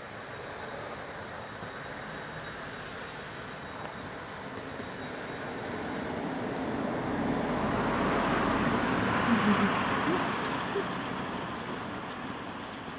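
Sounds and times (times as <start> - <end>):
diesel train engine: 0.0 - 12.9
train wheels on rails: 0.0 - 12.9.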